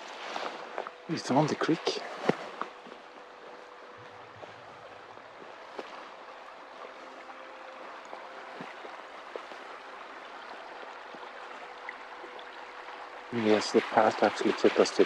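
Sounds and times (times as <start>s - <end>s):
creek running over rocks: 0.0s - 15.0s.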